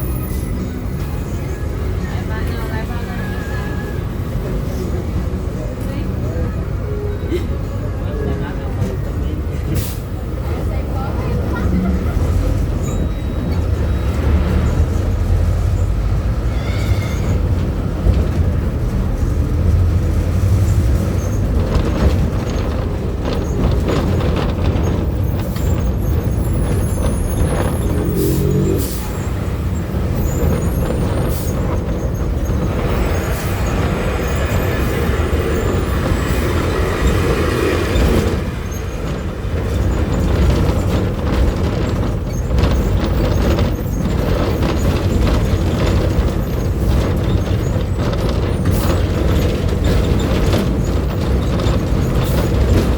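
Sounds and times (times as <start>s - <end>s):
bus diesel engine running: 0.0s - 52.9s.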